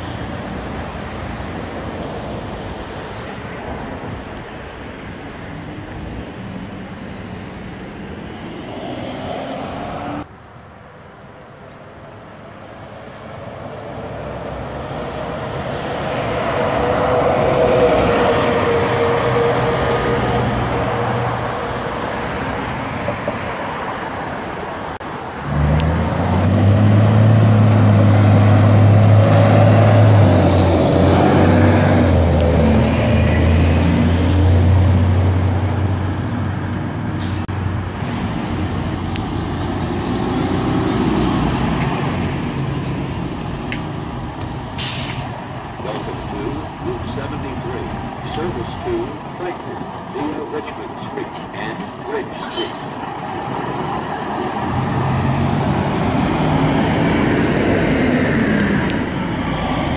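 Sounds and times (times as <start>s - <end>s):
bus engines and traffic: 0.0s - 59.9s.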